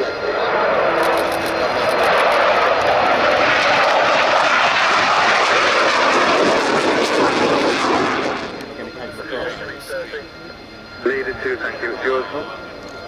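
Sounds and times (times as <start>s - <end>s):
jet engine taking off: 0.0s - 13.0s.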